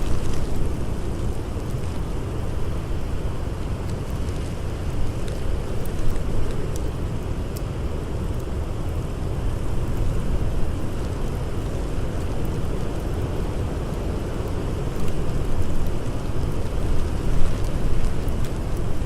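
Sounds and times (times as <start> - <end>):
faint campfire crackles: 0.0 - 19.0
howling blizzard wind: 0.0 - 19.0.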